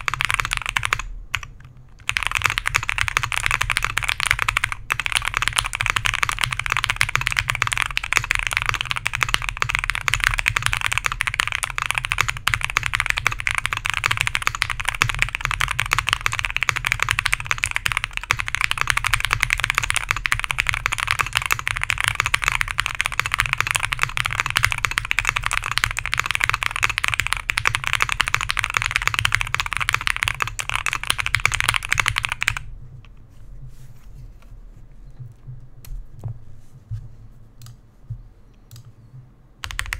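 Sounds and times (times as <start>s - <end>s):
fast typing on mechanical keyboard: 0.0s - 32.7s, 39.6s - 39.9s.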